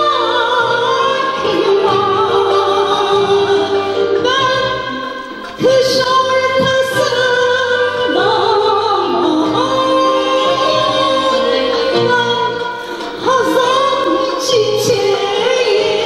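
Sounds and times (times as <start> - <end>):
instrumental ensemble: 0.0 - 16.0
woman singing: 0.0 - 16.0.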